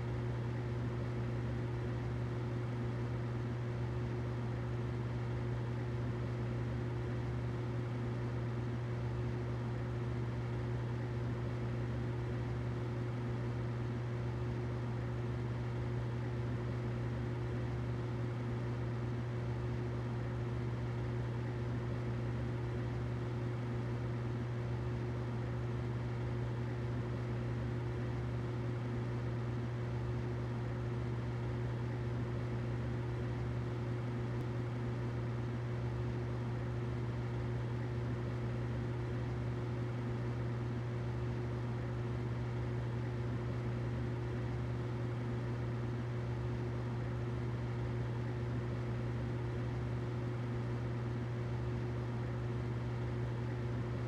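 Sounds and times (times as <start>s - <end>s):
humidifier hum and hiss: 0.0s - 54.0s.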